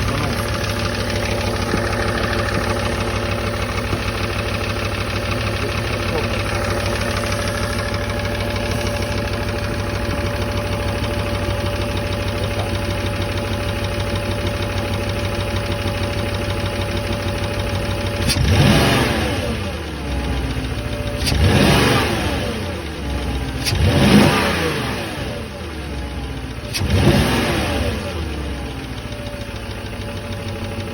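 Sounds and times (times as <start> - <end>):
car engine idling and revving: 0.0 - 30.9
engine tapping: 0.0 - 30.9.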